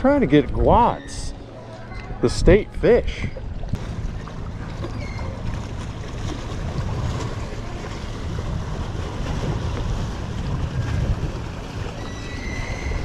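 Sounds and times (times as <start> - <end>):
small waves lapping: 0.0 - 13.0
wind buffeting microphone: 0.0 - 13.0.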